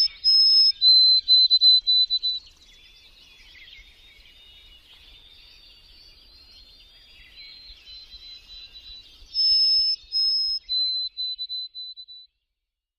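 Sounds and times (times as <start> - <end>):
bird whistles: 0.0 - 12.3
songbird twittering warble: 0.0 - 12.5.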